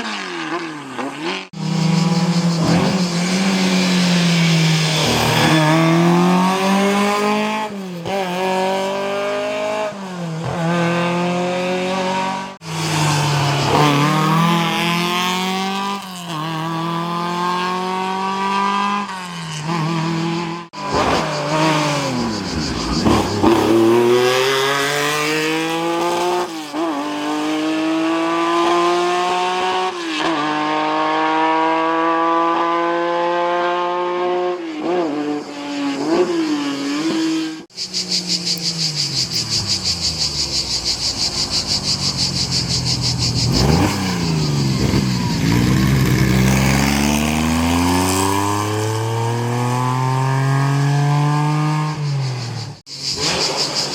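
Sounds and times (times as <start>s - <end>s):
racing car engines accelerating: 0.0s - 53.9s
racing car passing close: 0.0s - 53.9s.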